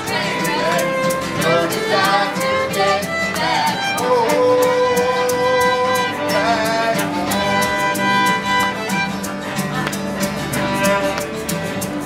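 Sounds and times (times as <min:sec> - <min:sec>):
live band playing: 0:00.0 - 0:12.0
sliding melody line: 0:00.0 - 0:12.0.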